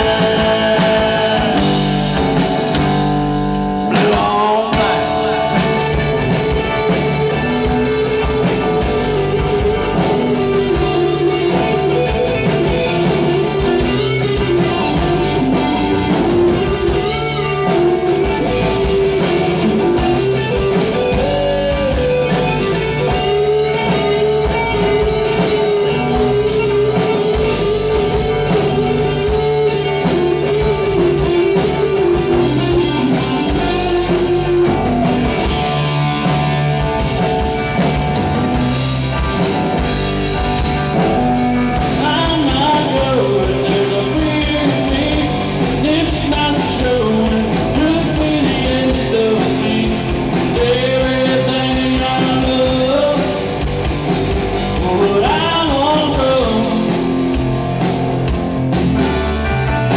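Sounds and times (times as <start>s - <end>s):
electric guitar lead: 0.0s - 59.9s
live rock band playing: 0.0s - 59.9s.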